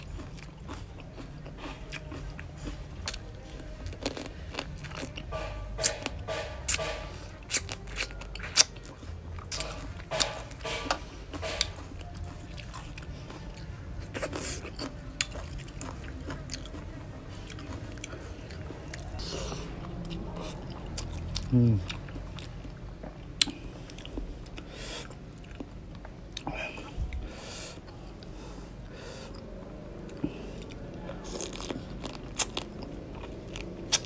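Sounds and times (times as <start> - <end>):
person chewing and crunching: 0.0 - 34.0.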